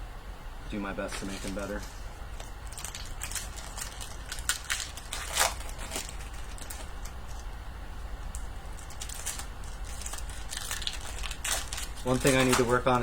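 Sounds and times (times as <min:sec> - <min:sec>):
low steady hum: 0:00.0 - 0:13.0
cards and wrappers rustling: 0:01.0 - 0:07.5, 0:08.3 - 0:13.0.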